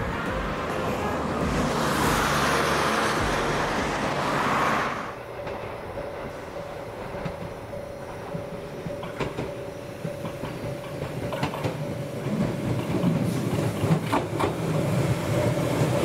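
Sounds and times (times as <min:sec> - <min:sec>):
electric train rushing on rails: 0:00.0 - 0:16.0
train hum: 0:00.0 - 0:16.0.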